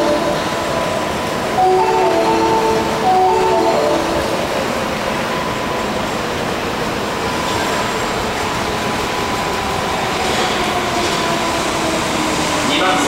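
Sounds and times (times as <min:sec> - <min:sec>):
electric train running in tunnel: 0:00.0 - 0:13.0.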